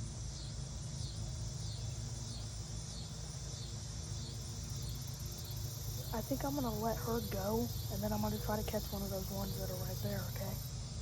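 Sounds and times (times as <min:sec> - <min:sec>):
insects chirring: 0:00.0 - 0:11.0
low steady hum: 0:00.0 - 0:11.0.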